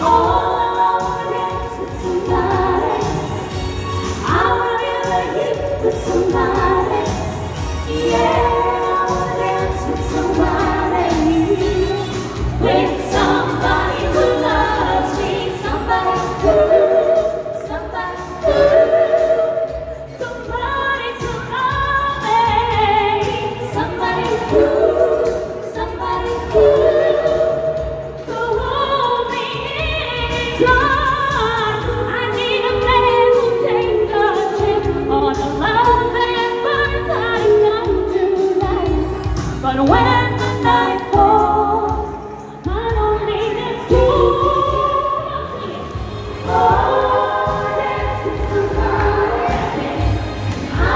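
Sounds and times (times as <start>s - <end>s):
woman singing into microphone: 0.0s - 50.9s.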